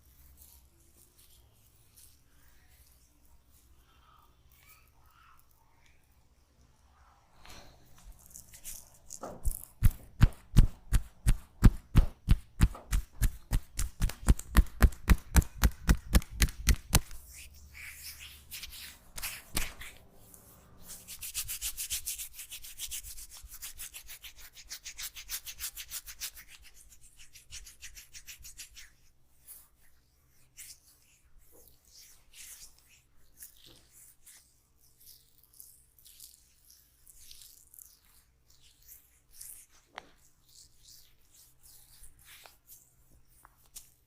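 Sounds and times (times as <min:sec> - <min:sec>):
hands rubbing hair and skin: 0:08.0 - 0:44.0.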